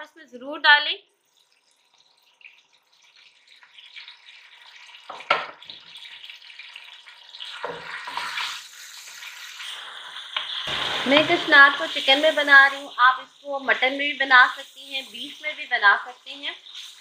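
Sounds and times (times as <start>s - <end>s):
onions sizzling in hot oil: 1.4s - 17.0s.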